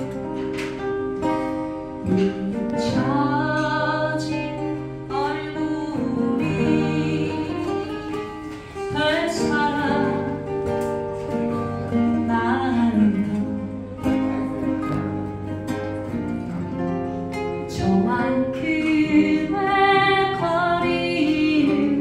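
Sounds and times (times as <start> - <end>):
acoustic guitar: 0.0 - 22.0.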